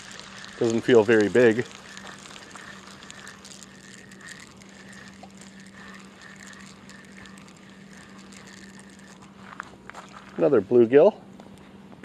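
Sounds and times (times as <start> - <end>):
fishing reel whirring: 0.0 - 10.7
steady low hum: 0.0 - 12.0.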